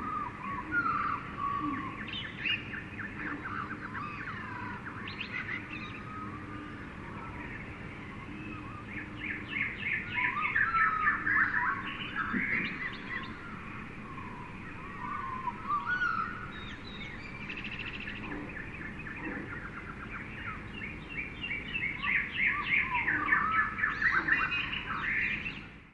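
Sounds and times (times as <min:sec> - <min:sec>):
birds chirping and calling: 0:00.0 - 0:25.9.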